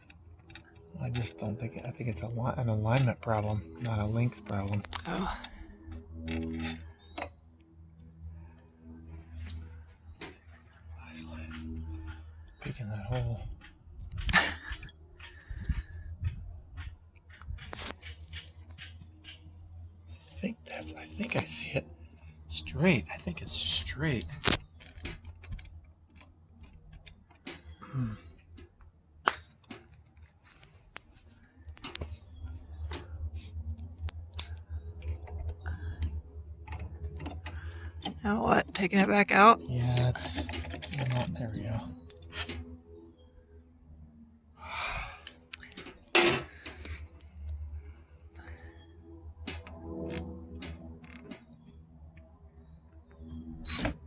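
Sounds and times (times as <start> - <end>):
small metallic clicks: 0.0 - 19.5, 24.2 - 27.8, 28.4 - 39.3, 39.9 - 42.8, 45.2 - 48.6, 49.2 - 52.3.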